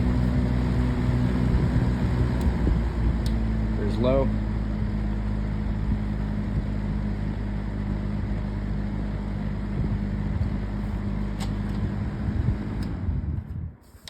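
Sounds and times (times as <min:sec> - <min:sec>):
fan air rushing: 0:00.0 - 0:14.0
fan motor hum: 0:00.0 - 0:14.0.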